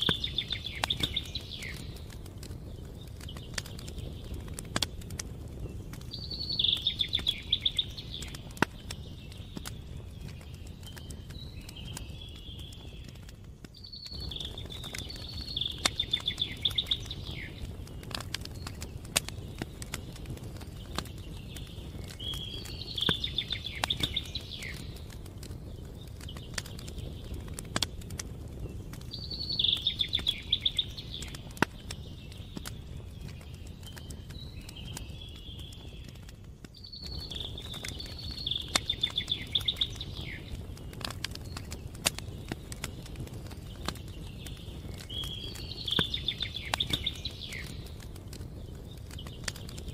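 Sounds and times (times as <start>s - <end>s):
campfire crackling and popping: 0.0s - 49.9s
fire rumbling: 0.0s - 49.9s.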